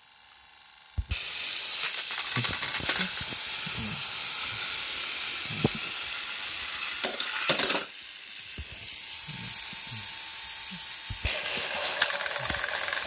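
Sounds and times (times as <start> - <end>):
toy engines whirring: 0.0 - 13.0.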